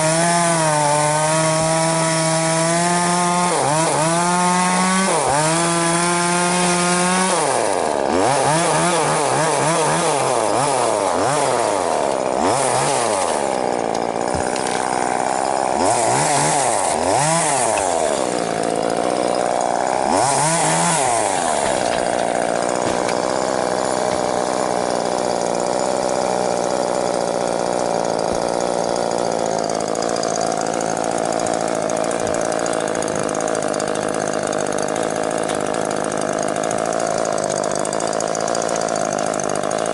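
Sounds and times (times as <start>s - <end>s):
two-stroke chainsaw revving: 0.0s - 39.9s.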